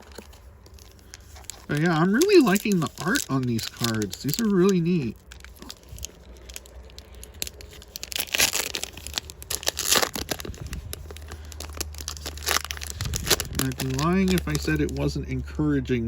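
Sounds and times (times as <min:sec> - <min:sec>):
foil wrapper tearing and crinkling: 0:00.0 - 0:15.2.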